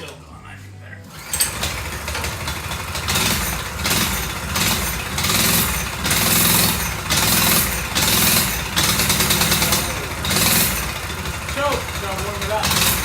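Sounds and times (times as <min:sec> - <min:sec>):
small engine surging: 0:01.1 - 0:13.0.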